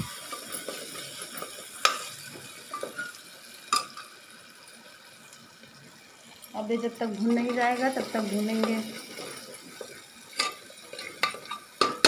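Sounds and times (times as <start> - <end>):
low sizzle: 0.0 - 12.0.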